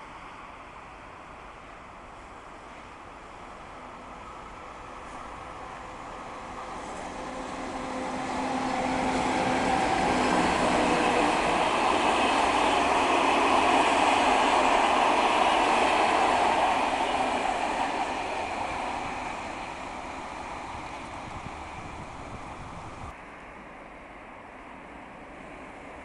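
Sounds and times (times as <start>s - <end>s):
electric locomotive hum: 0.0s - 26.0s
train coaches rolling on rails: 2.2s - 23.2s.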